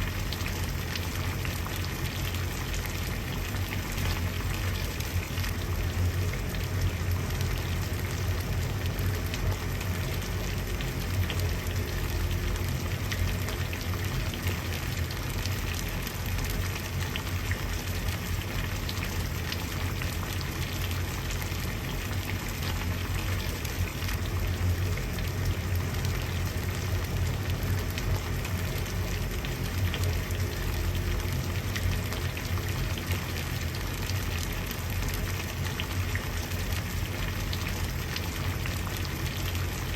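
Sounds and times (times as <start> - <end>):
water at a rolling boil: 0.0 - 39.9
low rumble: 2.6 - 19.4, 20.0 - 35.7.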